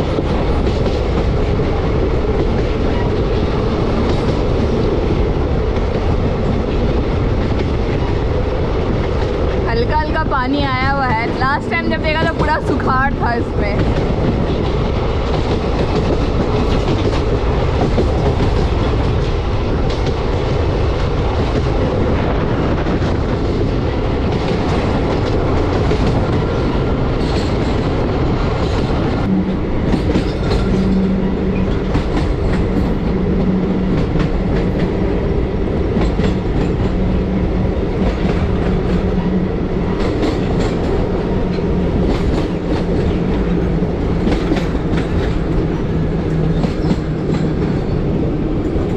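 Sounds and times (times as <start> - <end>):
train wheels rushing on rails: 0.0 - 48.9.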